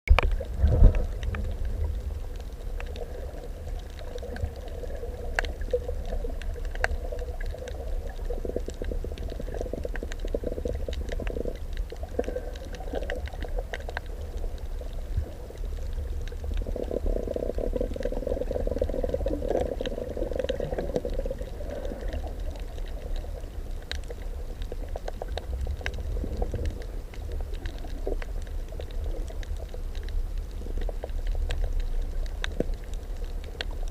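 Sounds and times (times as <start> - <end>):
murky underwater hum: 0.1 - 33.9
sharp clicks and crackles: 0.1 - 33.9
underwater rumble of moving water: 0.1 - 33.9.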